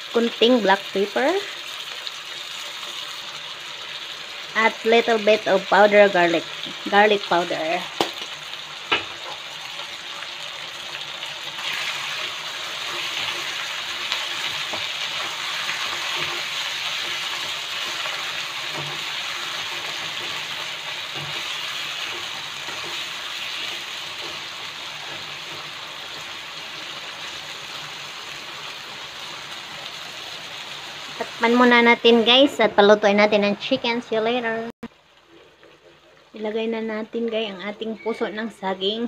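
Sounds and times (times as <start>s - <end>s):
chicken sizzling in oil: 0.0s - 32.8s.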